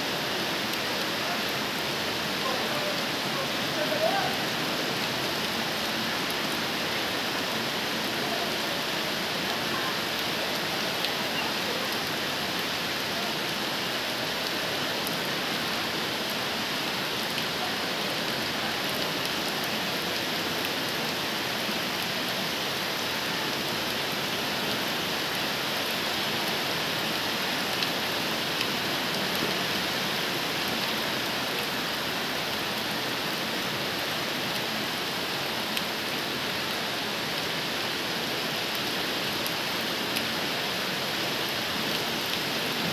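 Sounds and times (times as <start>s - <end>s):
heavy rain hiss: 0.0s - 42.9s.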